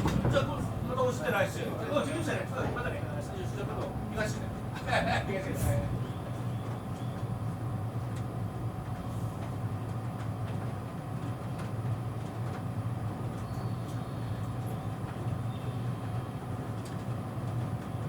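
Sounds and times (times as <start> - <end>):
train interior hum: 0.0 - 18.0.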